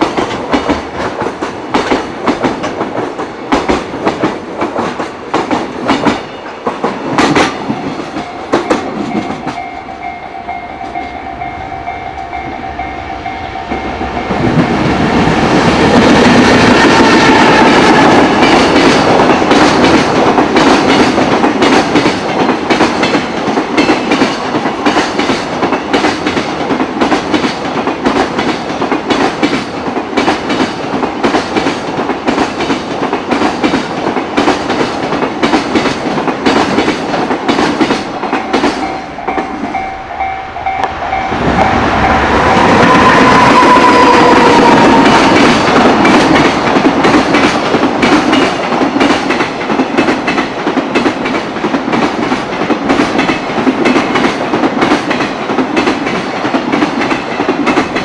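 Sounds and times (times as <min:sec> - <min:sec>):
freight train wheels clattering: 0:00.0 - 0:58.0.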